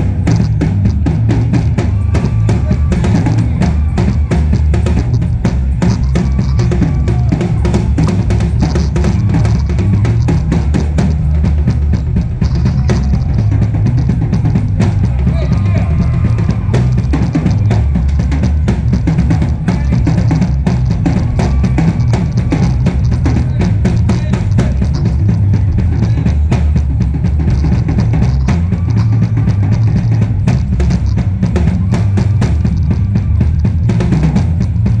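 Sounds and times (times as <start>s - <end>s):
marching band playing: 0.0s - 35.0s
snare and bass drum beat: 0.0s - 35.0s.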